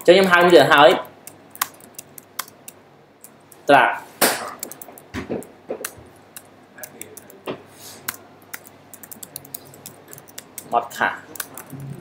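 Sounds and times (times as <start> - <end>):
keyboard typing: 0.2 - 3.7, 4.4 - 12.0.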